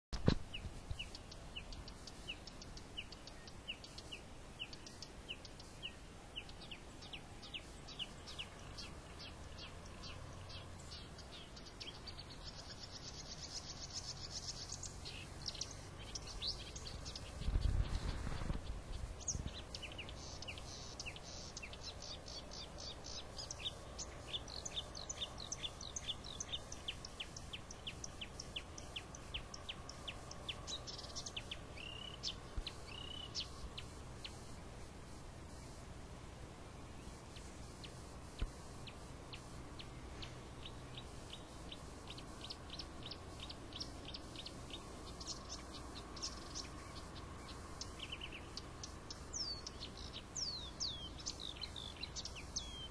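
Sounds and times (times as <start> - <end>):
small birds chirping: 0.2 - 52.9.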